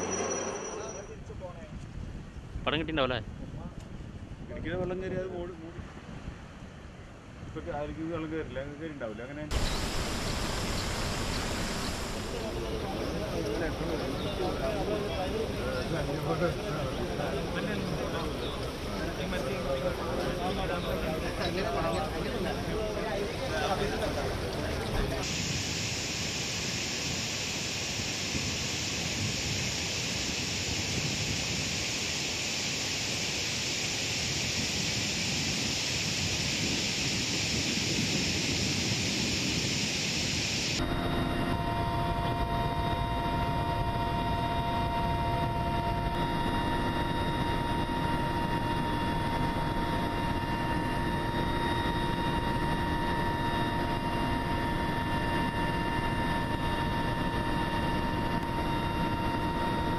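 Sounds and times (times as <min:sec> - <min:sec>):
engine drone: 0:00.0 - 0:01.2, 0:09.5 - 0:59.9
steady rushing noise: 0:09.4 - 0:59.9
constant hum: 0:09.5 - 0:59.9.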